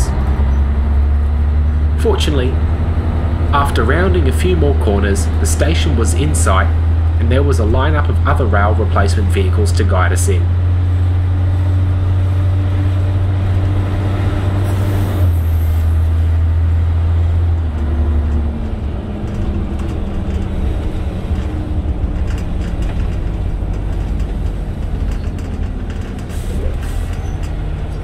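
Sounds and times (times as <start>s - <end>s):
bus body noise: 0.0s - 28.0s
bus engine drone: 0.0s - 28.0s.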